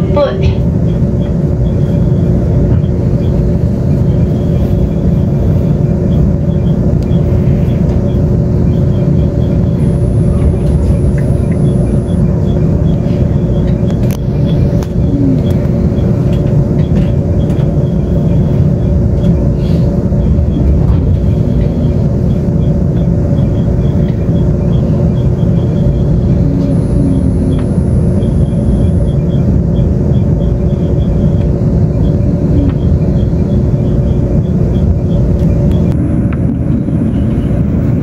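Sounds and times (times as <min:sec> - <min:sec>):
constant low hum: 0:00.0 - 0:38.0
train wheels rumbling: 0:00.0 - 0:38.0.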